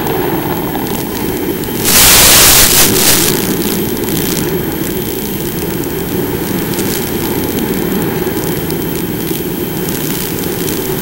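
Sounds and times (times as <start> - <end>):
faint high whine: 0.0 - 11.0
rc plane motor drone: 0.0 - 11.0
wind rush: 0.1 - 11.0.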